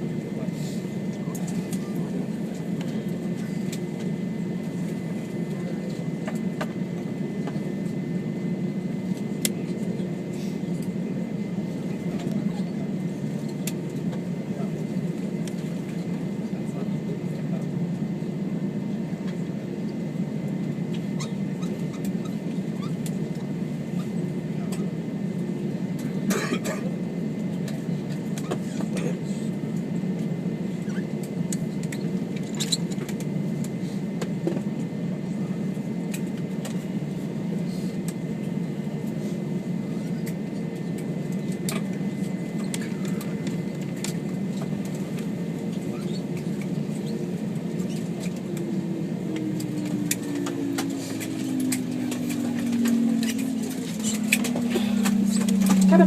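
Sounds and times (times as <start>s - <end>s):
aircraft cabin hum: 0.0s - 56.0s.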